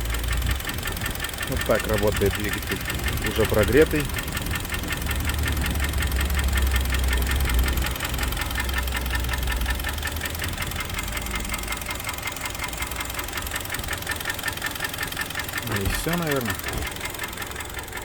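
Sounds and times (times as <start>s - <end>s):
car engine idling with rapid knock: 0.0s - 18.0s.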